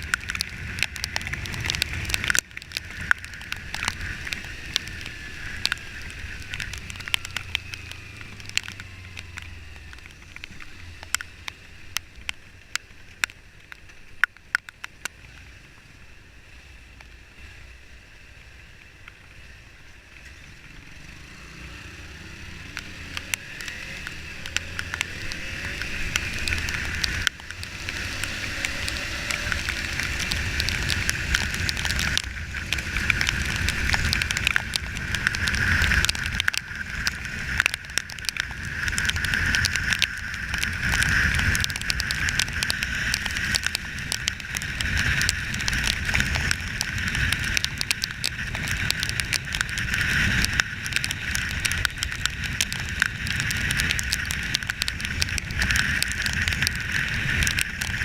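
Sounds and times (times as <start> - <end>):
dense crackling: 0.0 - 15.1, 22.4 - 58.0
wind and road noise: 0.0 - 58.0.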